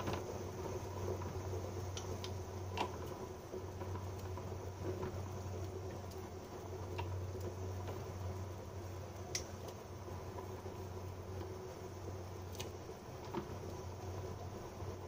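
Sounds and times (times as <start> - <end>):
soup bubbling at a boil: 0.0 - 15.0
steady low hum: 0.0 - 15.0.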